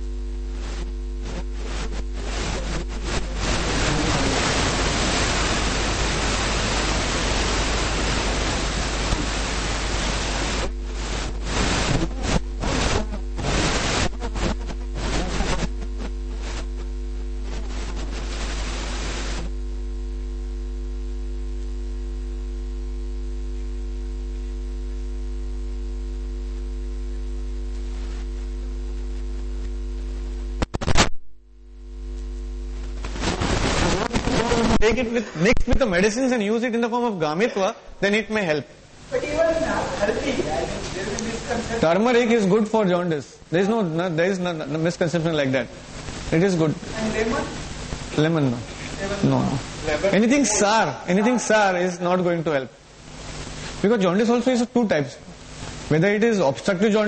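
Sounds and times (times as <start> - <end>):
electrical mains hum: 0.0 - 57.0
hiss and static: 0.0 - 57.0.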